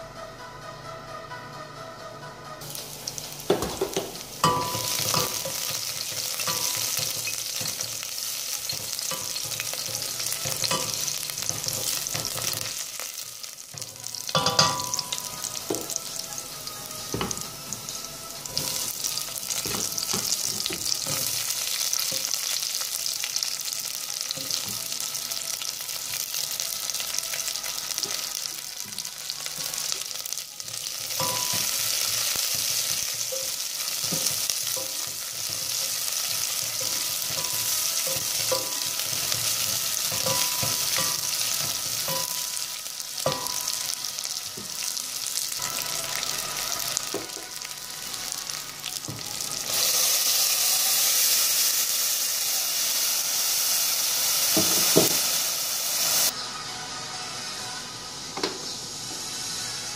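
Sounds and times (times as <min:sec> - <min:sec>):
garlic sizzling in hot oil: 0:02.6 - 0:56.4.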